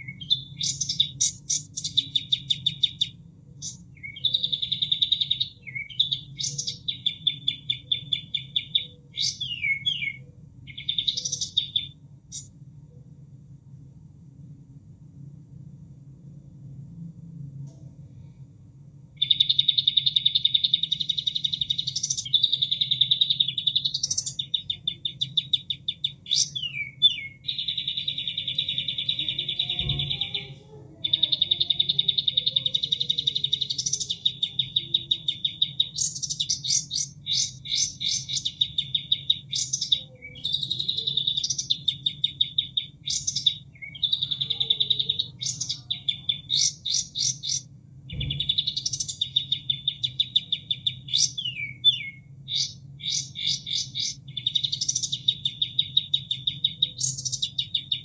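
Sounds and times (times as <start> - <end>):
recorded bird song trills: 0.0 - 13.5, 19.0 - 58.0.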